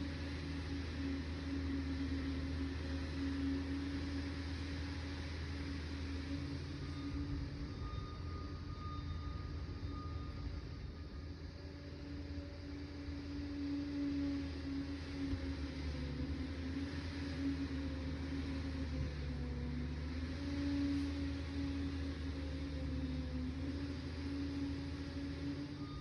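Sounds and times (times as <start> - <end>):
dozer diesel engine running: 0.0 - 26.0.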